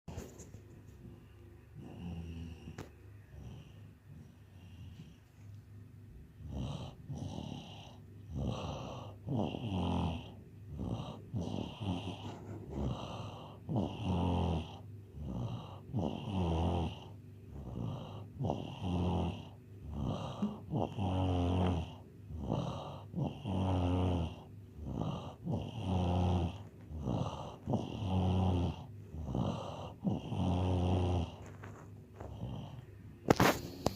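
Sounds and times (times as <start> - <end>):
cat snoring: 1.7 - 5.5, 6.2 - 33.9.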